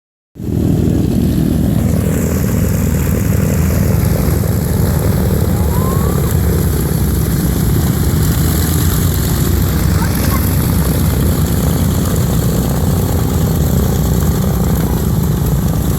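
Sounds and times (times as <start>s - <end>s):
propeller aircraft engine drone: 0.4s - 15.9s.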